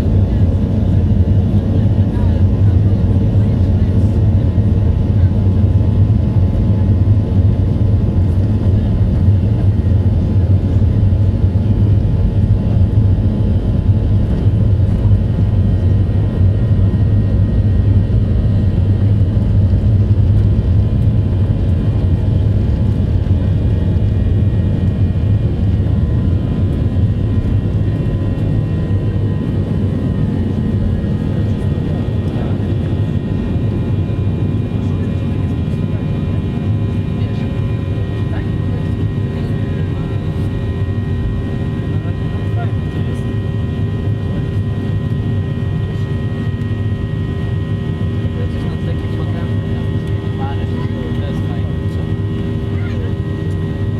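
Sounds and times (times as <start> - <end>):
airliner cabin engine drone: 0.0 - 53.9.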